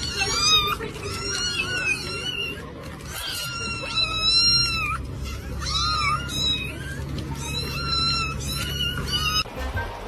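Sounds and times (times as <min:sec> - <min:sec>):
cat meowing: 0:00.0 - 0:09.5.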